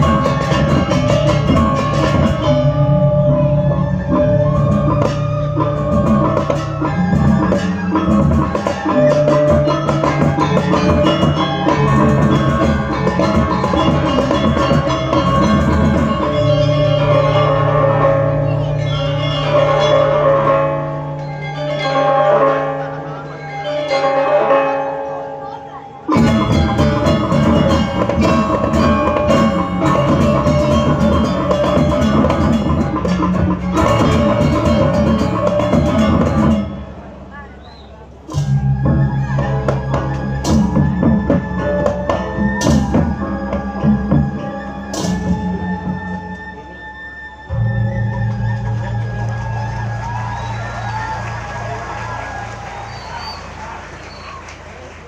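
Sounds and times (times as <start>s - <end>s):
gamelan ensemble playing: 0.0s - 55.0s.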